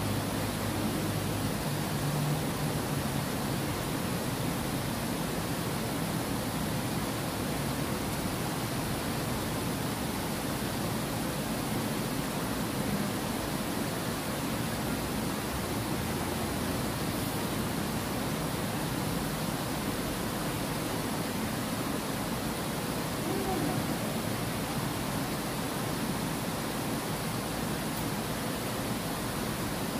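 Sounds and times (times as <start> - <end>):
water rushing over weir: 0.0 - 29.9.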